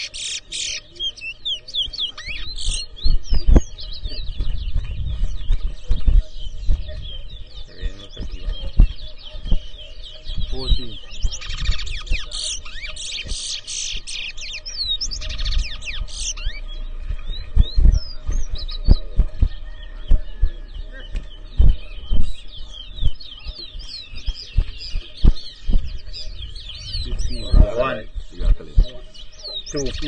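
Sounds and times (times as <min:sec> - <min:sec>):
finch song chirps and whistles: 0:00.0 - 0:30.0.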